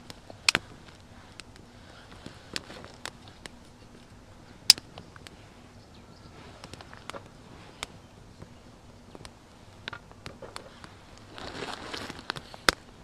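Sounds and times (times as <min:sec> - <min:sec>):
wood fire crackling and popping: 0:00.0 - 0:05.8, 0:06.4 - 0:13.0.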